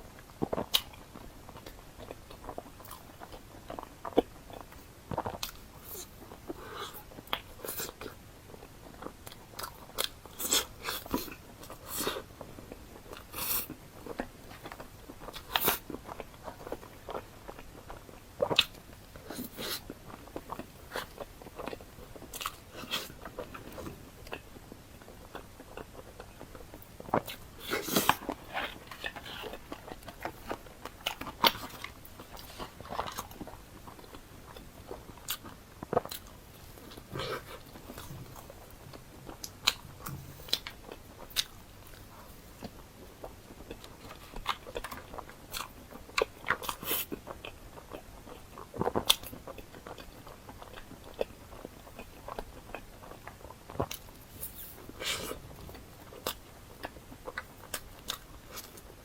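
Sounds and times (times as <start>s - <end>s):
biting and chewing: 0.1s - 59.0s.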